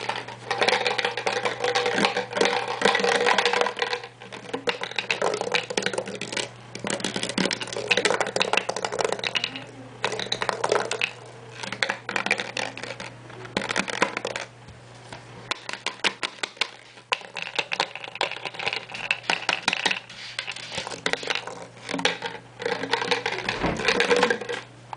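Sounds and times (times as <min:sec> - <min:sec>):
plastic bottle crinkling: 0:00.0 - 0:14.5, 0:15.5 - 0:24.7
steady low hum: 0:00.0 - 0:24.9.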